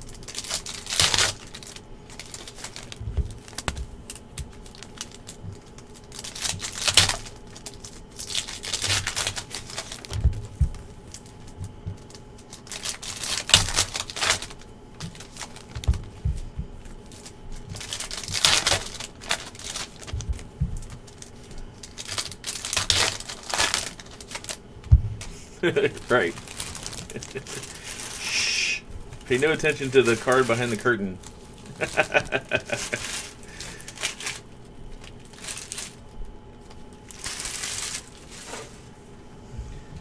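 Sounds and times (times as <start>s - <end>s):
foil packs tearing and crinkling: 0.0s - 38.9s.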